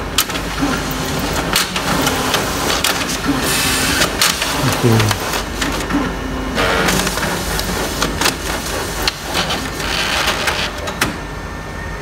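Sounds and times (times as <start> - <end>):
copier running: 0.0 - 11.5.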